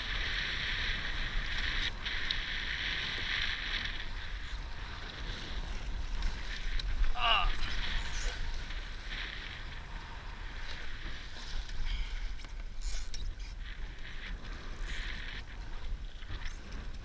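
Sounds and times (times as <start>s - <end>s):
water splashing along hull: 0.0s - 17.0s
wind rumble on microphone: 0.0s - 17.0s.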